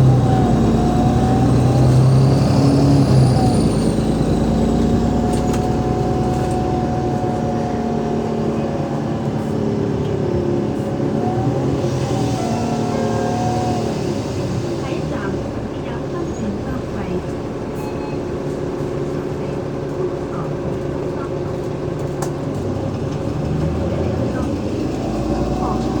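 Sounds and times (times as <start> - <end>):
bus drivetrain whine: 0.0 - 26.0.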